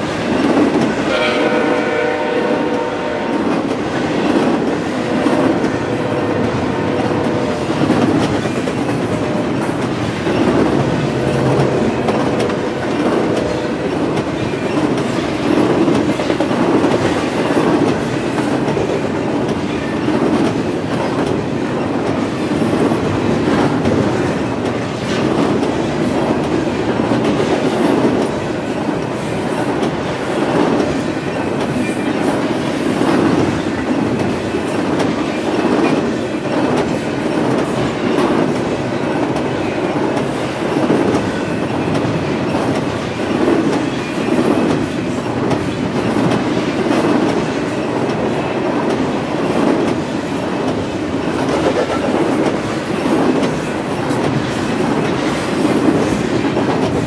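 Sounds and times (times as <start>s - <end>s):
freight train wheels rumbling: 0.0s - 57.0s
clickety-clack of wheels: 7.2s - 57.0s.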